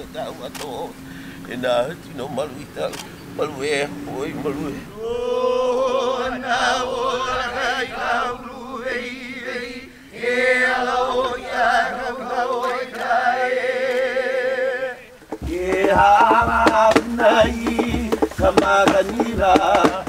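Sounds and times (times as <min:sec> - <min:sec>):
voices chanting with vibrato: 0:00.0 - 0:20.0.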